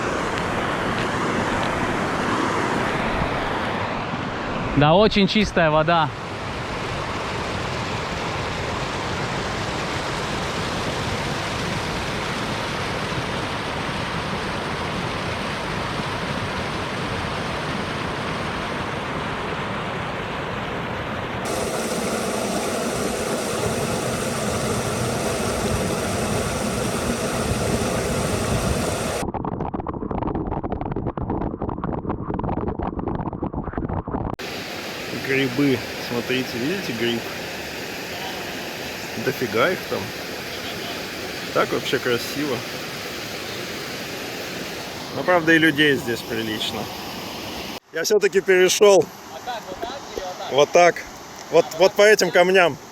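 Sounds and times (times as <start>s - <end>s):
water rushing down waterfall: 0.0s - 20.6s, 21.4s - 29.2s, 34.4s - 52.9s.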